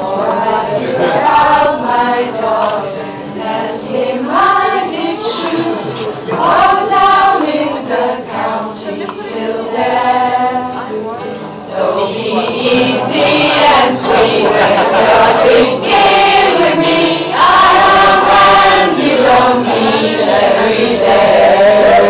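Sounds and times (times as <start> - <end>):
group of women singing: 0.0 - 11.0, 11.6 - 22.0
acoustic guitar: 0.0 - 22.0.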